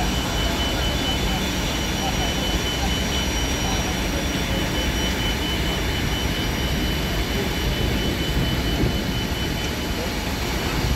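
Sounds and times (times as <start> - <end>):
fire engine water pumps droning: 0.0 - 10.9.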